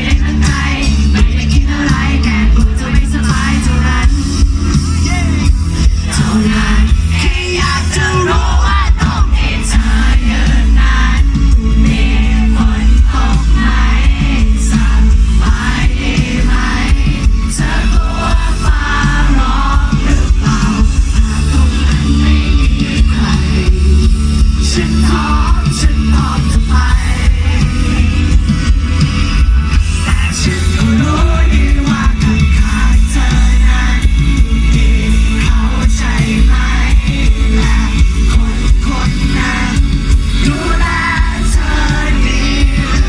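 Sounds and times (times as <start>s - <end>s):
live rock band playing: 0.0s - 43.0s
man singing lead vocals: 0.0s - 43.0s.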